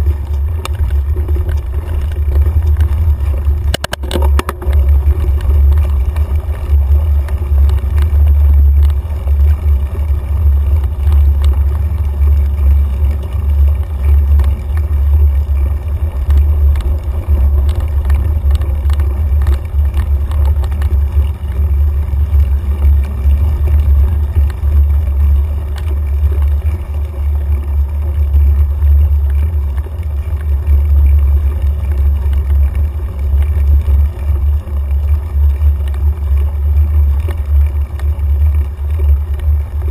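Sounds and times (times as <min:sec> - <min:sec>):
bike clicks and rattles: 0:00.0 - 0:39.9
wind rumble: 0:00.0 - 0:39.9.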